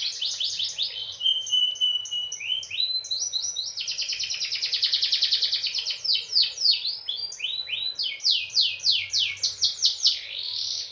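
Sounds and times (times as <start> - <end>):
canary singing: 0.0 - 10.9.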